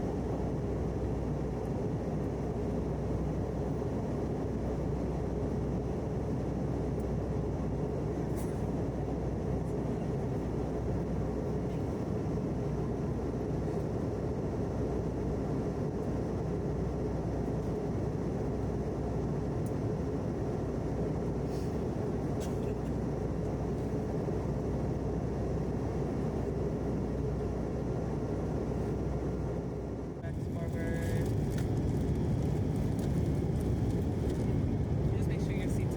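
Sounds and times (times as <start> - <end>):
engine and airflow drone: 0.0 - 35.9.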